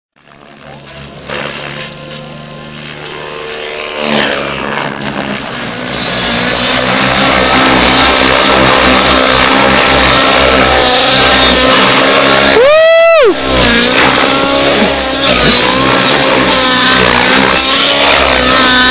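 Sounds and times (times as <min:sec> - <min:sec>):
high steady whine: 0:00.2 - 0:18.9
model helicopter engine and rotor: 0:00.2 - 0:18.9.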